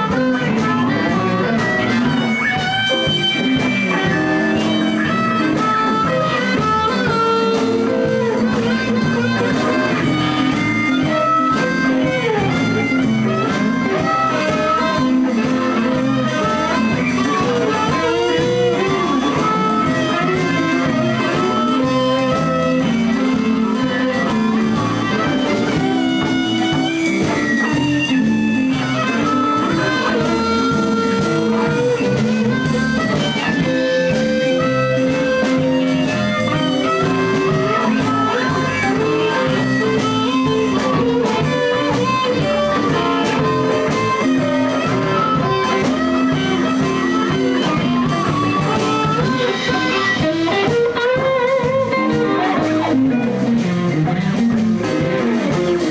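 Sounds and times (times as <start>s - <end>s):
bass: 0.0s - 55.9s
blues guitar lead: 0.0s - 55.9s
drums: 0.0s - 55.9s.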